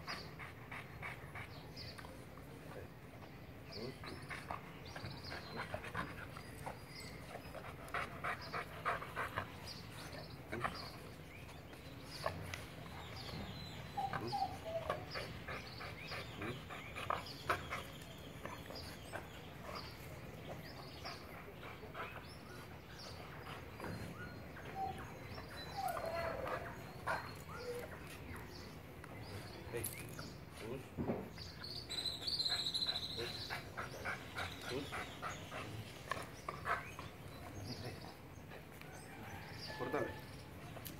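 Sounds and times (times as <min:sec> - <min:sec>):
dog panting: 0:00.0 - 0:02.2, 0:03.8 - 0:29.7, 0:31.9 - 0:39.4.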